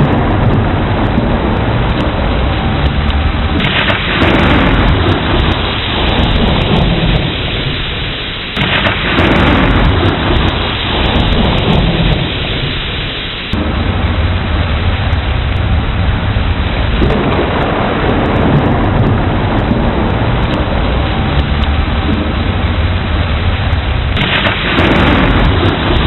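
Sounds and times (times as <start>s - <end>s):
heavy rain: 0.0s - 26.0s
rolling thunder: 0.0s - 26.0s.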